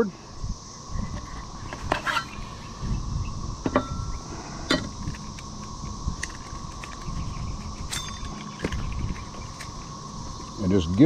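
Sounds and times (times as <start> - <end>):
insect drone: 0.0 - 11.0
wind rumble on microphone: 0.1 - 11.0.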